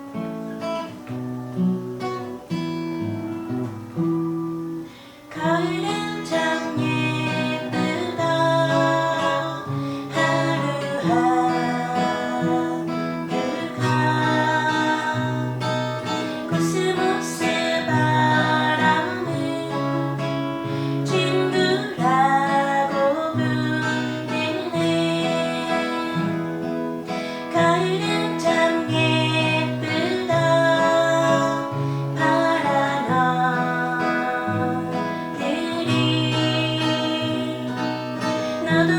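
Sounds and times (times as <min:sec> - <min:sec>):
acoustic guitar: 0:00.0 - 0:38.9
person singing: 0:04.9 - 0:38.9.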